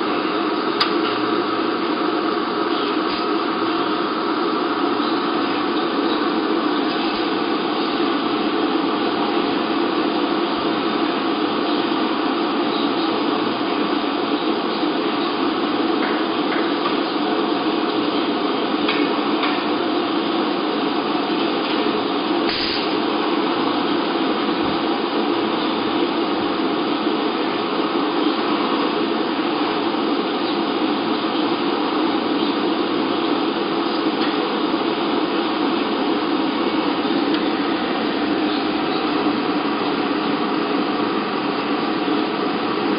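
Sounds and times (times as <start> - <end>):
welding machine drone: 0.0 - 42.9.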